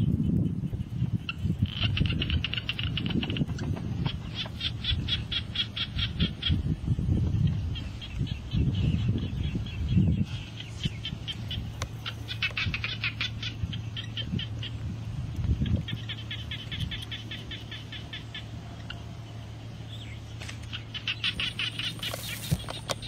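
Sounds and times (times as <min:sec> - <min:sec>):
animal chirping rapidly: 0:00.0 - 0:06.7, 0:07.5 - 0:14.8, 0:15.6 - 0:19.0, 0:20.7 - 0:23.0
low steady hum: 0:00.0 - 0:23.0.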